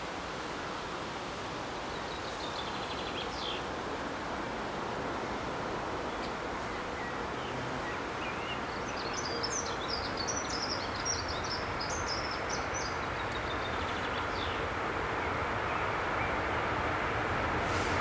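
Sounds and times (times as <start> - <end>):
steady rushing background noise: 0.0 - 18.0.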